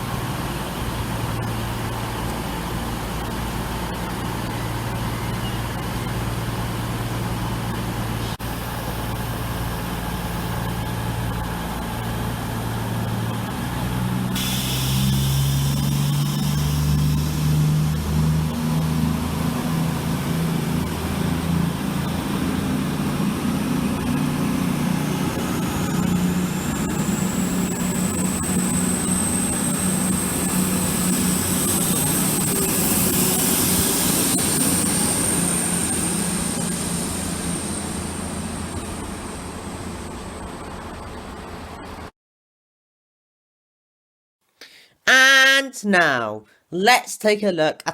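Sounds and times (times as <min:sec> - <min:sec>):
diesel train engines droning: 0:00.0 - 0:42.1
high engine whine: 0:00.0 - 0:42.1.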